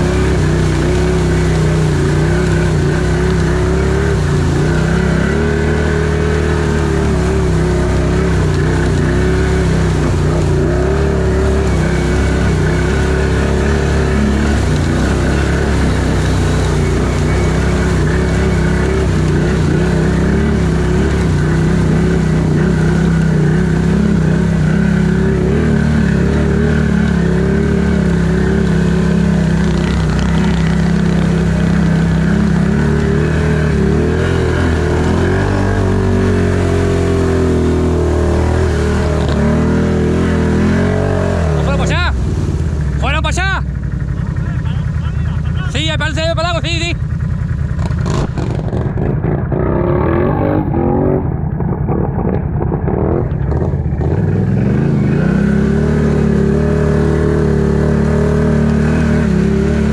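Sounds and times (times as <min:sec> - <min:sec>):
water and mud sloshing: 0:00.0 - 0:45.5, 0:47.2 - 0:59.9
atv engine running: 0:00.0 - 0:59.9.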